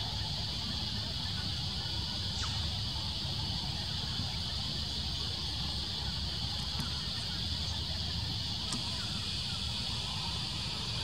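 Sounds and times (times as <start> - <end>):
cicadas chorusing: 0.0 - 11.0.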